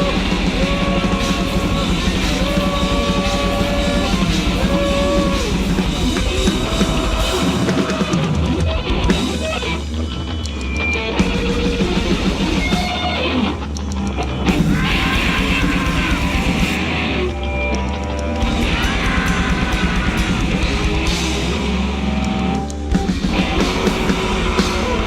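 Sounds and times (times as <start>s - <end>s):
pounding drums: 0.0s - 13.2s, 14.5s - 17.0s, 18.4s - 22.0s, 22.8s - 25.0s
distorted guitar noise: 0.0s - 25.0s.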